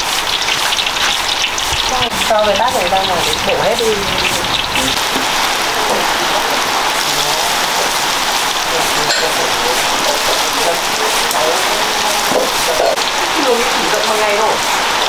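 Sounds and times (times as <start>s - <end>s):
hot oil sizzling in a pan: 0.0s - 15.0s.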